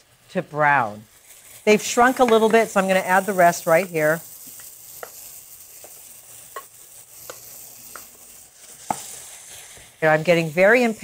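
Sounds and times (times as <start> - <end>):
mushrooms sizzling in oil: 0.0 - 11.0.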